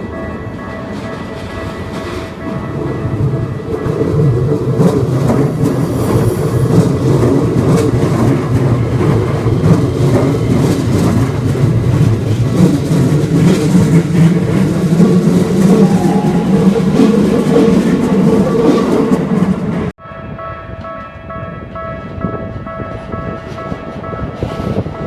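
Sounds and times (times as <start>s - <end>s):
train rumbling past on rails: 0.0s - 25.0s.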